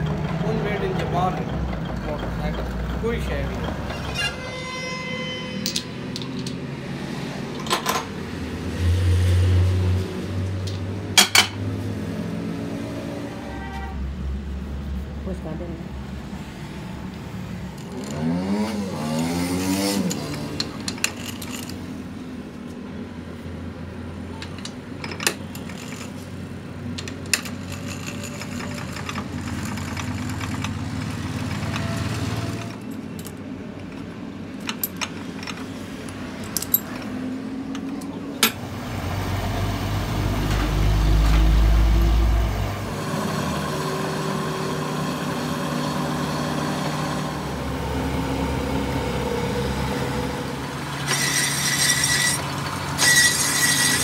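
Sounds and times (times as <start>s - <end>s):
machine shop hum: 0.0s - 54.0s.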